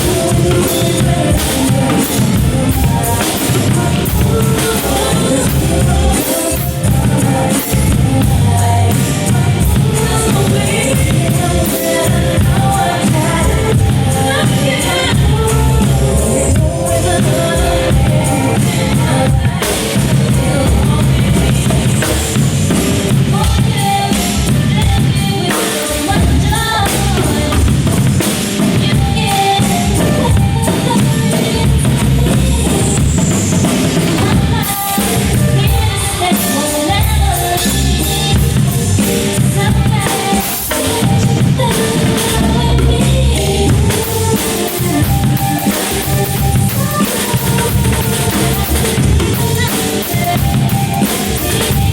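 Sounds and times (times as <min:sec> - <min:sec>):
recorded song with singing: 0:00.0 - 0:51.9.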